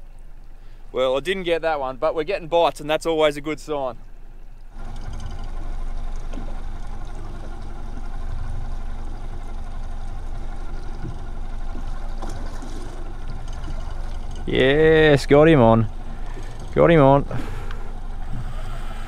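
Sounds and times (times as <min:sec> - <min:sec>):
boat engine hum and rumble: 0:00.0 - 0:19.0
faint water wash: 0:02.3 - 0:19.0.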